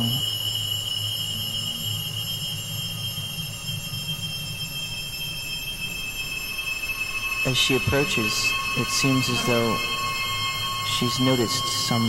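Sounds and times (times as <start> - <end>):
faint high tones: 0.0 - 12.0
high-pitched electronic whine: 0.0 - 12.0
low hum: 0.0 - 12.0.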